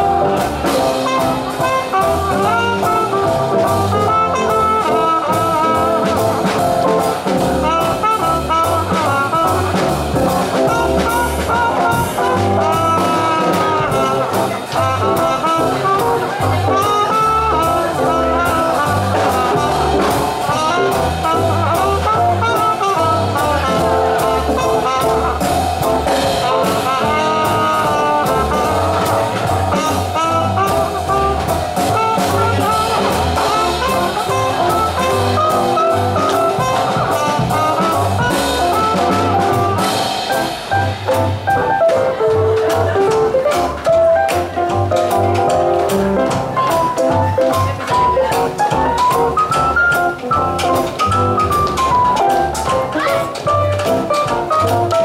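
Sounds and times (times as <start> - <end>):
piano: 0.0 - 55.0
swing jazz band playing: 0.0 - 55.0
trumpet: 0.0 - 55.0.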